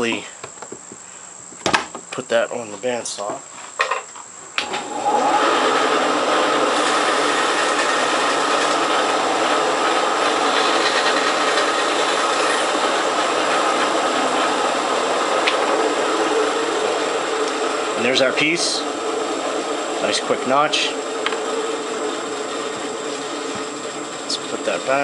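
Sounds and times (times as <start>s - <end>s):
bandsaw cutting: 4.8s - 25.0s.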